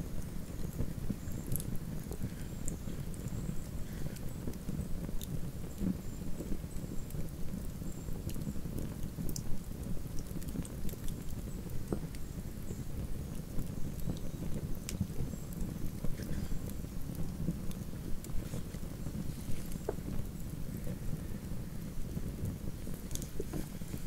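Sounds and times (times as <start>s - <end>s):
campfire burning: 0.0s - 24.0s
fire crackles and pops: 0.0s - 24.0s
sharp snaps of fire: 0.0s - 24.0s.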